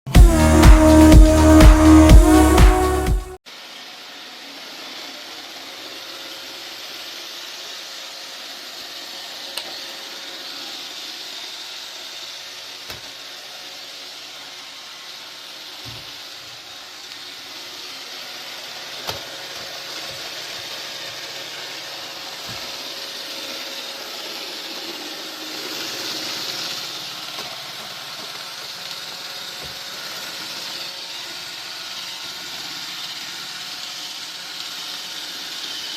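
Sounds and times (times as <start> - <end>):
vacuum cleaner running: 0.0 - 35.9.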